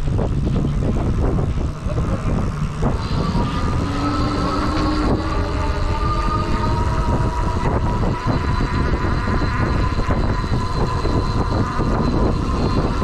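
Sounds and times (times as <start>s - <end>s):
high hub motor whine: 0.0s - 13.0s
road noise: 0.0s - 13.0s
wind rumble on microphone: 0.0s - 13.0s.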